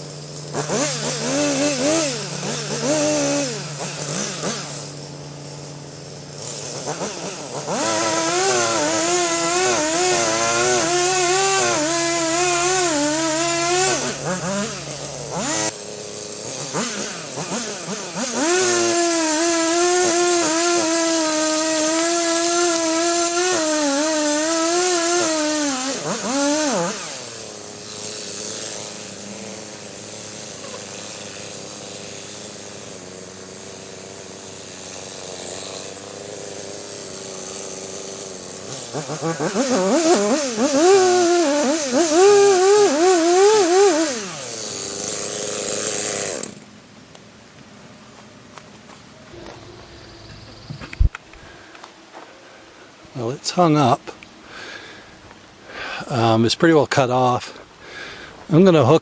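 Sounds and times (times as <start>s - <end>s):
chainsaw cutting wood: 0.0s - 56.3s, 57.0s - 59.0s.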